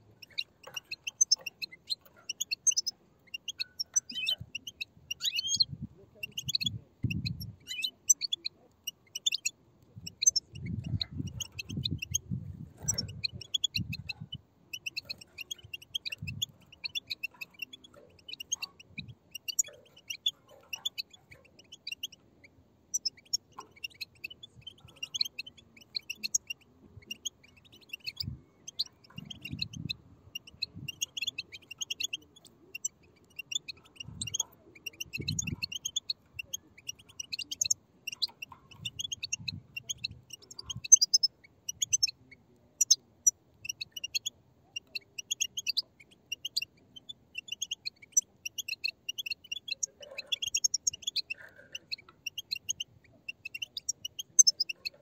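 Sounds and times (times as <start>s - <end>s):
goldfinches twittering: 0.0s - 43.0s, 43.6s - 55.0s.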